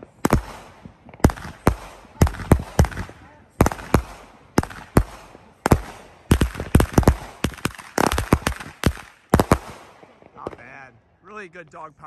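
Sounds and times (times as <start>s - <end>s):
firework crackle: 0.0s - 10.7s
firework bangs: 0.0s - 10.9s.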